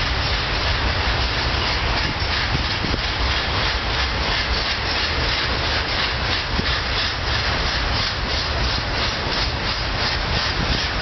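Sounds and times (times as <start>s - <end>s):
freight train rolling past: 0.0s - 11.0s
wheels clattering on rail: 0.0s - 11.0s.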